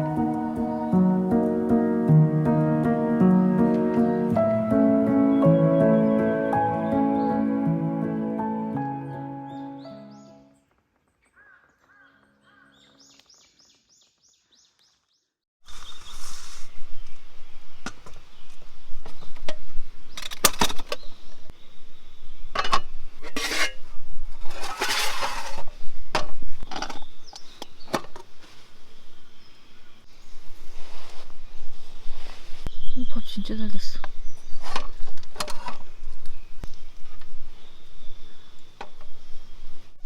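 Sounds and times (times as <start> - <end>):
forest ambience: 0.0 - 22.6, 26.6 - 34.8, 35.9 - 40.0.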